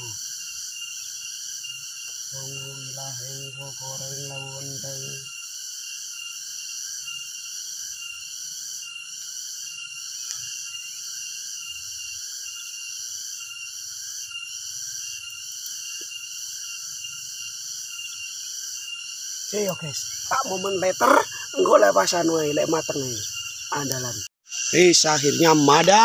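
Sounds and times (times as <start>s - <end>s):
insect chorus buzzing: 0.0s - 26.0s.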